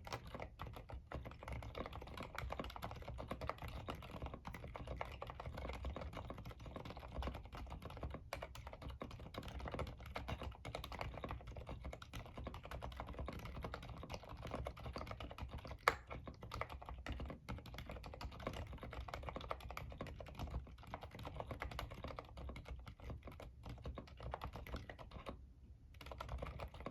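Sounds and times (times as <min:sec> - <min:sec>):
fast typing on mechanical keyboard: 0:00.0 - 0:26.9.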